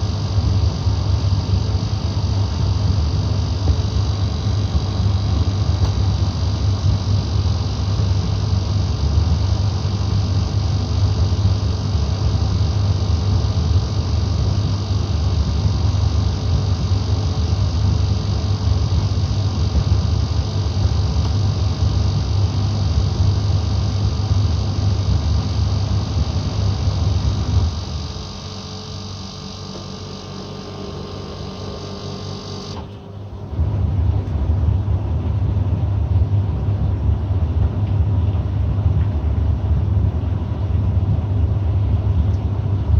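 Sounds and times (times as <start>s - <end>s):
tumble dryer humming: 0.0s - 42.9s.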